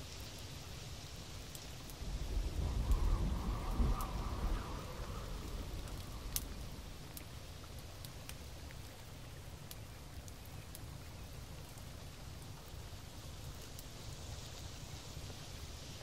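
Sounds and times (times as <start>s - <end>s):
light drip-like ticks: 0.0s - 16.0s.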